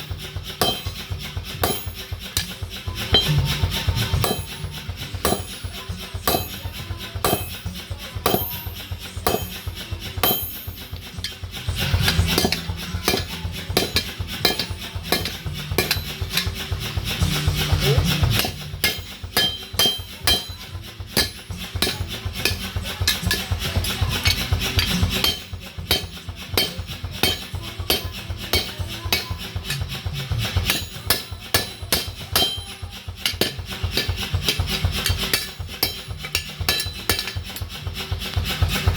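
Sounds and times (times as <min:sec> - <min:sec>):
hammers striking metal on anvil: 0:00.0 - 0:38.9.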